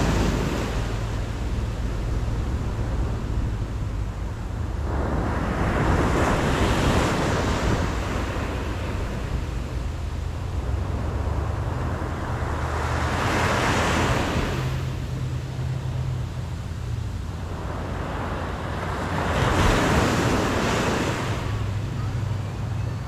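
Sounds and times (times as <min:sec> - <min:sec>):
low surf rumble: 0:00.0 - 0:23.0
waves breaking on beach: 0:00.0 - 0:23.0.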